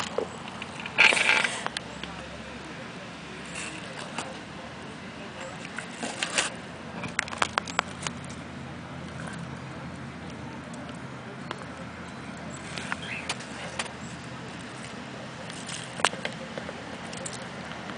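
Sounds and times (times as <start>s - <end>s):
steady low hum: 0.0s - 17.9s
tortoise crunching corn cob: 0.0s - 17.9s.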